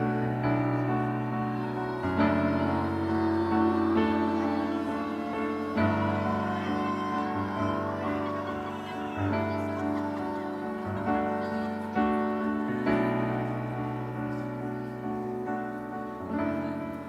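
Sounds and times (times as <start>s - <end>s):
slow soft piano music: 0.0s - 17.0s.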